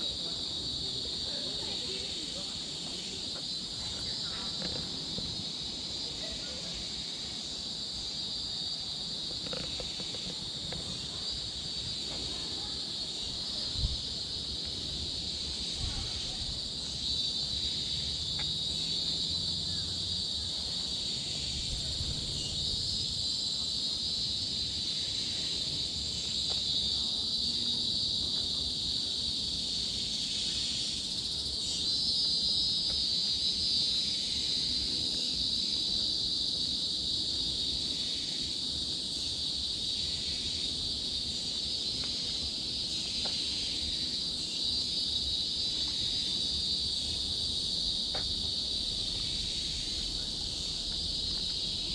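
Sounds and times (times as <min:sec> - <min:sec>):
insects buzzing drone: 0:00.0 - 0:51.9.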